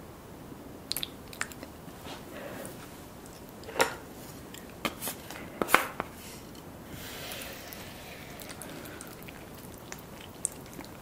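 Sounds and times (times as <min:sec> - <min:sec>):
wet squishes of noodles: 0:00.9 - 0:05.6, 0:06.4 - 0:11.0.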